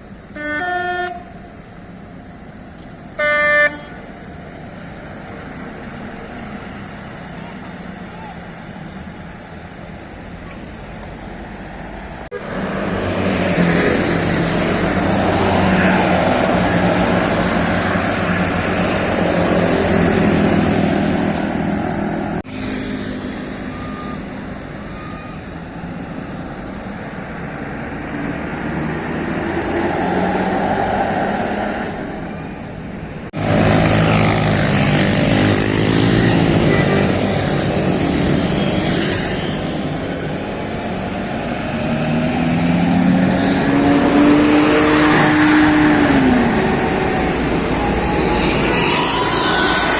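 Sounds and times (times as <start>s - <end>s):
tour buses passing: 0.0s - 49.9s.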